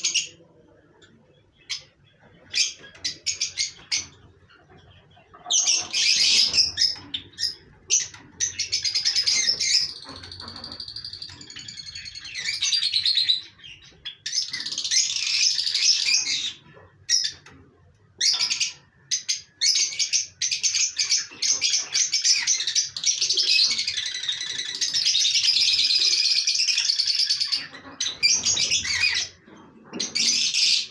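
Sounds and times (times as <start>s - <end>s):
pet birds chirping: 0.0s - 30.9s.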